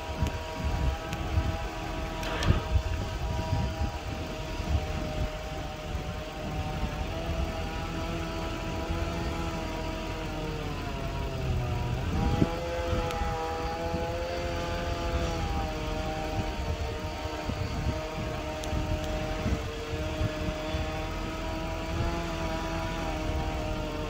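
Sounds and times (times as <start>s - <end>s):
chainsaw running at high revs: 0.0s - 24.0s.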